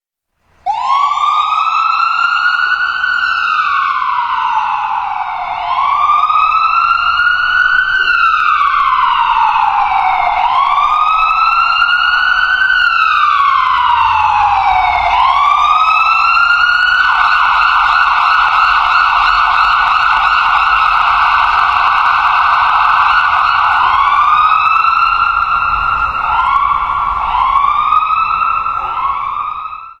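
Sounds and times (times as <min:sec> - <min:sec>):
ambulance siren: 0:00.6 - 0:30.0.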